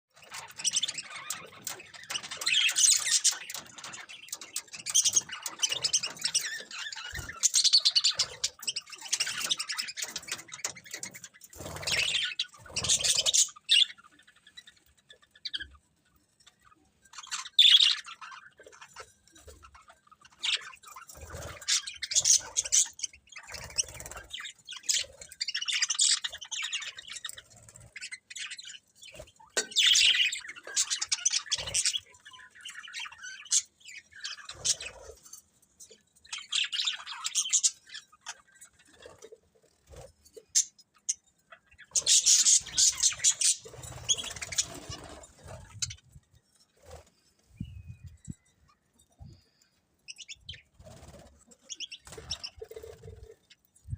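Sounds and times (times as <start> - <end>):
budgerigars chirping and chattering: 0.1 - 53.9.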